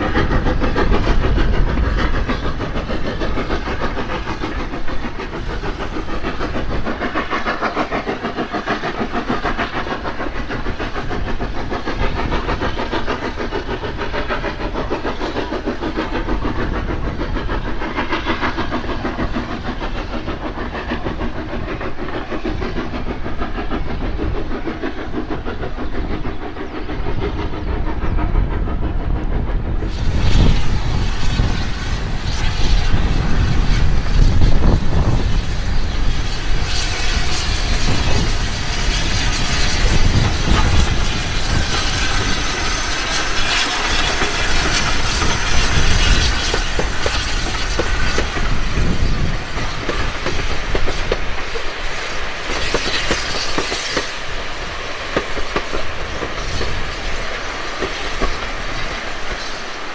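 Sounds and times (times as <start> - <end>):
steam locomotive exhaust beating: 0.0 - 59.9.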